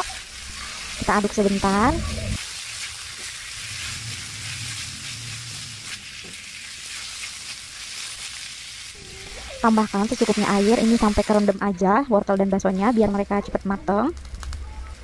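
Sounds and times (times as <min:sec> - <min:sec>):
food sizzling in hot oil: 0:00.0 - 0:13.7.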